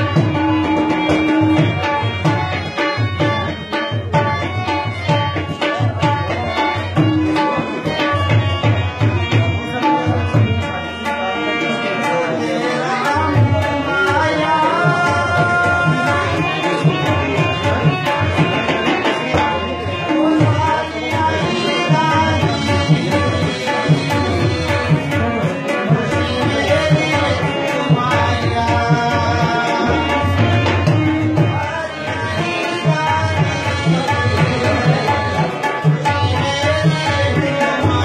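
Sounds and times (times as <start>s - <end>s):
tabla drumming: 0.0s - 38.0s.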